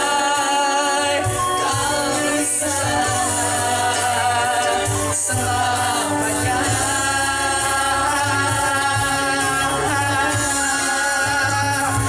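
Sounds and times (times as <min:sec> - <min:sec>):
acoustic guitar: 0:00.0 - 0:12.0
bass guitar: 0:00.0 - 0:12.0
voices singing long notes: 0:00.0 - 0:12.0.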